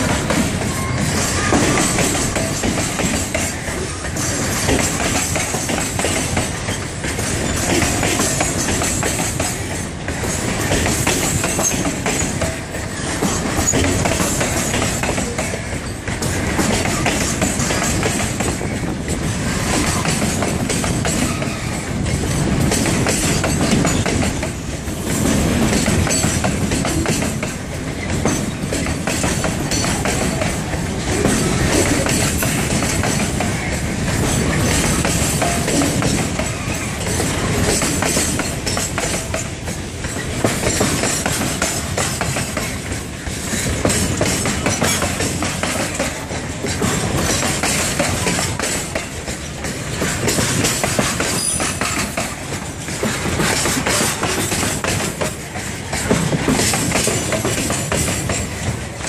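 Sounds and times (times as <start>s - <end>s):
train wheels rumbling and clacking: 0.0s - 59.0s.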